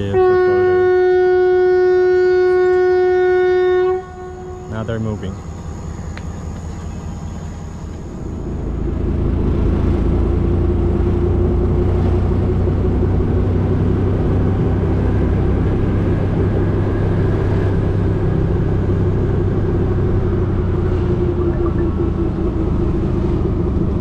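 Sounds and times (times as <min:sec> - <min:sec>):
auto-rickshaw engine running: 0:00.0 - 0:24.0.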